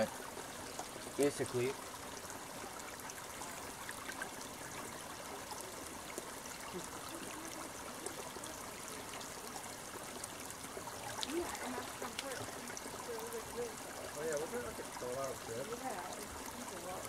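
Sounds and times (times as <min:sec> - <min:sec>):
stream trickling: 0:00.0 - 0:17.0
water gurgling into pouch: 0:00.0 - 0:17.0.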